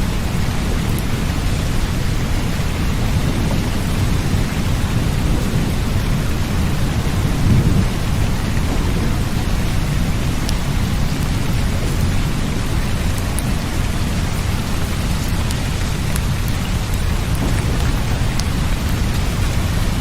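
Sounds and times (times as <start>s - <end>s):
deep continuous rumble: 0.0s - 20.0s
heavy rain hissing: 0.0s - 20.0s.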